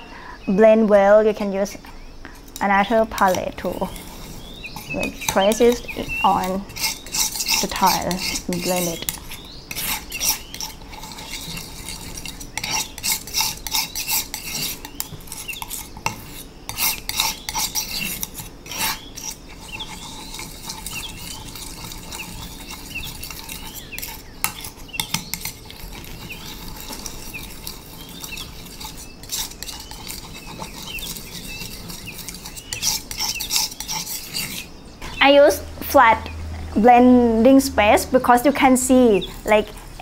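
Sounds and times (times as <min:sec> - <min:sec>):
palette knives scraping a tile: 0:03.2 - 0:34.7, 0:39.1 - 0:40.0.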